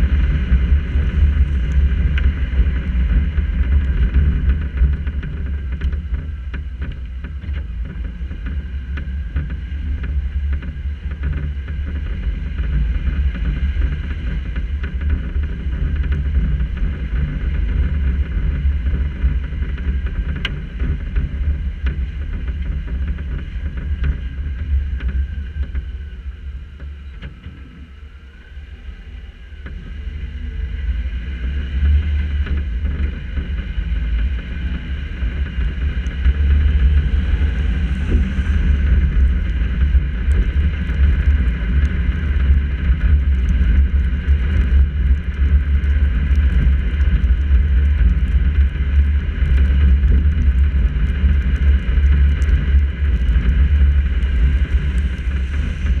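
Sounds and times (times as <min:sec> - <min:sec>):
car wind and road noise: 0:00.0 - 0:56.0.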